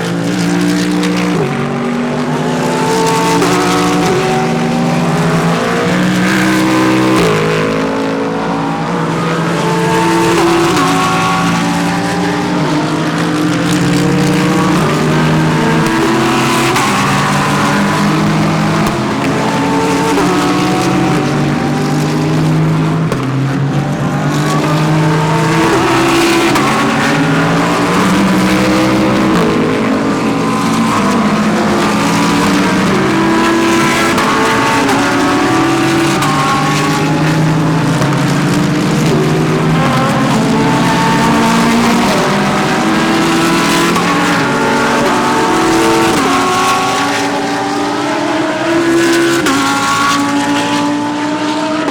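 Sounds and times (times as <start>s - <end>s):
race car engines shifting gears: 0.0s - 51.9s.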